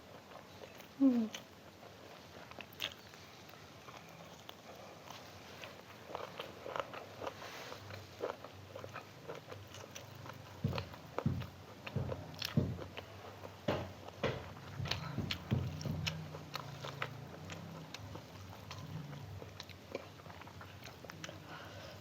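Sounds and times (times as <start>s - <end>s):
person chewing and crunching: 0.0s - 22.0s.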